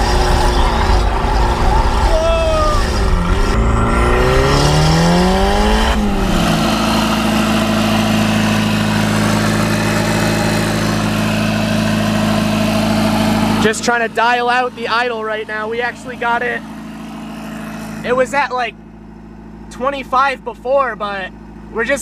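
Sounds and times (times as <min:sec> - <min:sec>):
car engine revving up: 0:00.0 - 0:18.5
car engine raised idle: 0:00.0 - 0:22.0.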